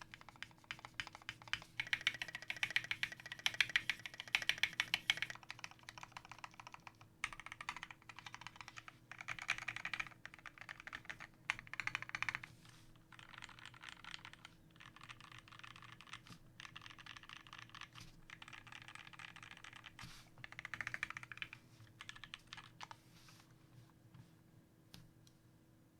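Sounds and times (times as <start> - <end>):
mechanical keyboard typing: 0.0 - 12.5, 13.1 - 23.0.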